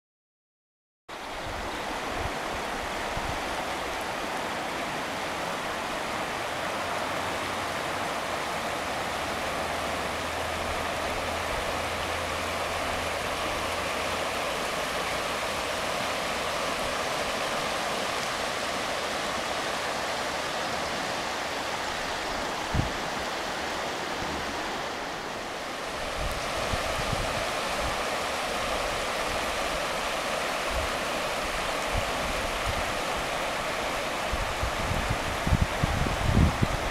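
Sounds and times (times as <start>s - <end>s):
river rushing over stones: 1.1s - 36.9s.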